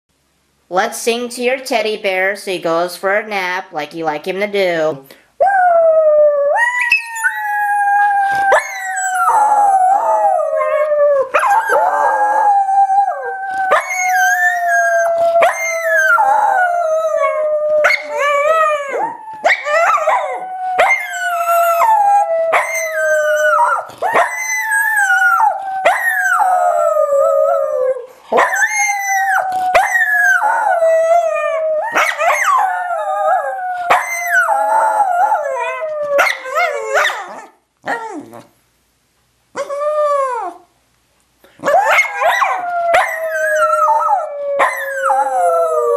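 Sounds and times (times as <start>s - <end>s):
dog howling: 5.4s - 38.3s, 41.6s - 45.9s.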